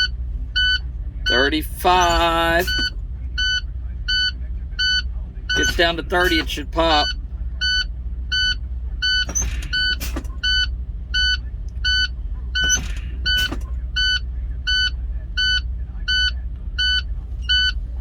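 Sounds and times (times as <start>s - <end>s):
warning beeps: 0.0s - 17.8s
truck engine idling: 0.0s - 18.0s.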